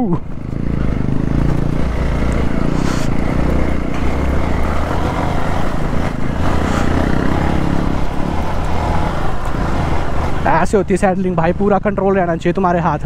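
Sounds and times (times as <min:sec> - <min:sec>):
motorcycle engine running: 0:00.0 - 0:11.8
ground noise: 0:00.4 - 0:11.7.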